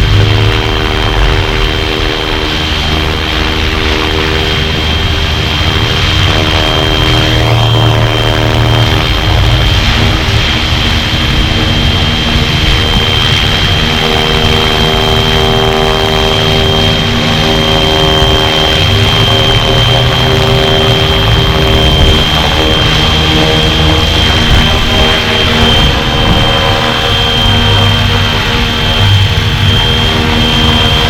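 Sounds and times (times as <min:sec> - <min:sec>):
electric motor whine: 0:00.0 - 0:31.0
low wind rumble: 0:00.0 - 0:31.0
rotor buzzing: 0:00.0 - 0:31.0.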